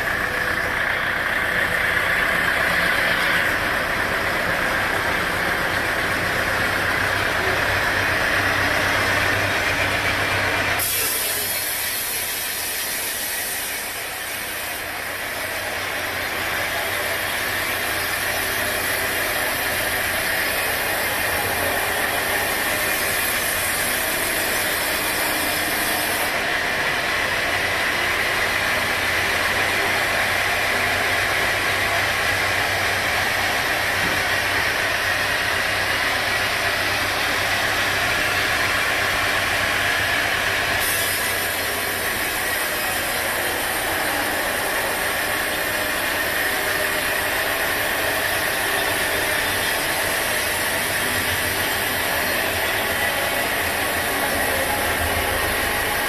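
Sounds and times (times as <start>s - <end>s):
sawmill engine hum: 0.0s - 56.0s
high hiss: 10.7s - 56.0s.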